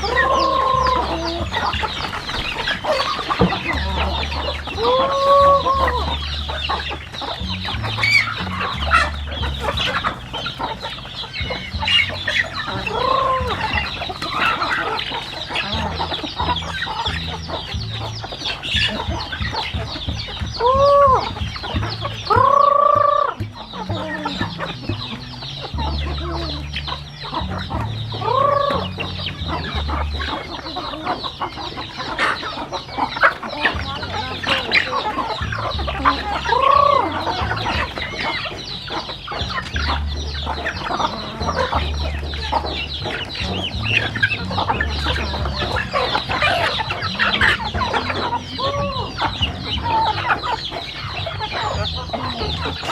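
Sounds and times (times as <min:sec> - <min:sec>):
chicken drawn-out calls: 0:00.0 - 0:52.9
chickens clucking: 0:00.0 - 0:52.9.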